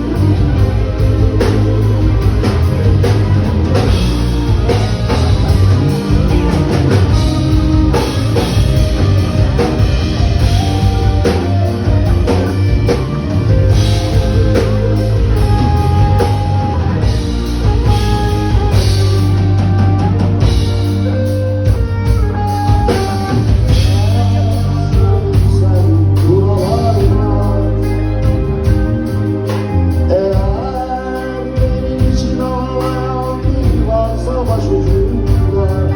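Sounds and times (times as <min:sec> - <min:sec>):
drum kit beat: 0:00.0 - 0:35.9
rock band playing: 0:00.0 - 0:35.9.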